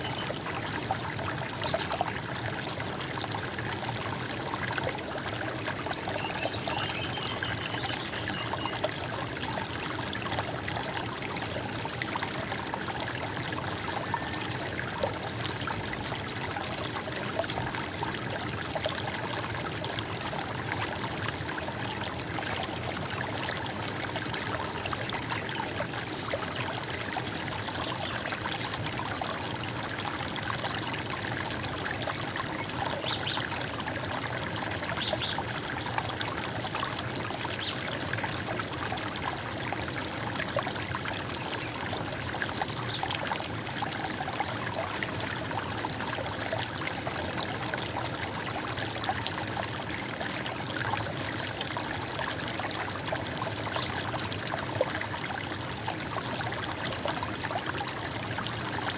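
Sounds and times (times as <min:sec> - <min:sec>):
stream gurgling: 0:00.0 - 0:58.9.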